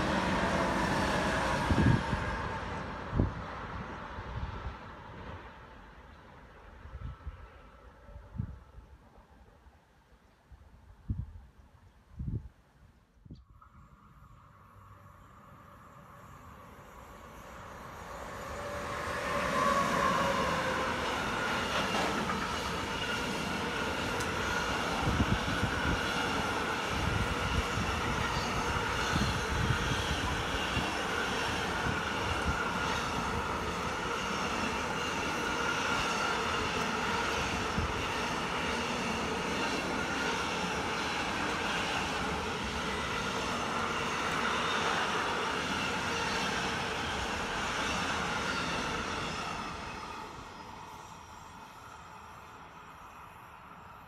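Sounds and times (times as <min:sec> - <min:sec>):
freight train passing: 0:00.0 - 0:09.9, 0:13.5 - 0:54.0.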